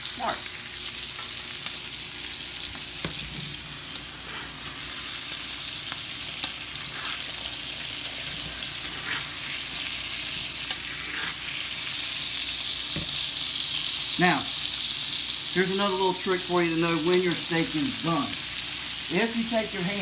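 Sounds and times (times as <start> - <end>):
steaks sizzling in a skillet: 0.0 - 20.0.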